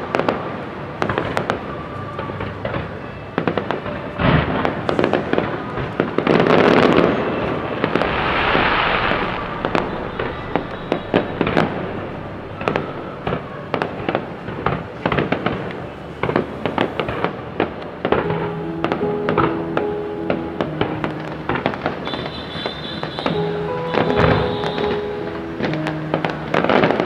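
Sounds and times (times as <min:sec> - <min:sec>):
fireworks bangs and pops: 0:00.0 - 0:01.7, 0:02.3 - 0:18.4, 0:20.7 - 0:25.0
fireworks crackling: 0:00.0 - 0:19.9, 0:20.6 - 0:25.0.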